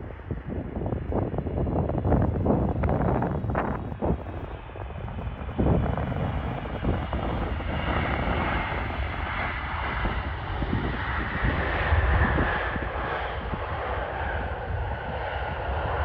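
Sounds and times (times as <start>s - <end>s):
jet engines roaring: 0.0s - 16.0s
wind buffeting microphone: 0.0s - 16.0s.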